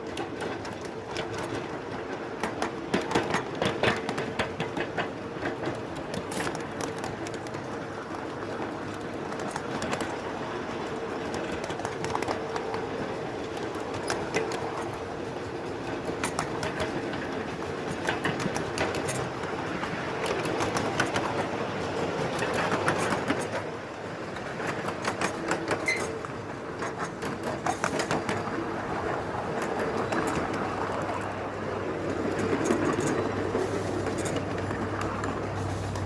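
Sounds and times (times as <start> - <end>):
miniature train rolling: 0.0 - 36.0
wheels clicking over rail joints: 0.0 - 36.0.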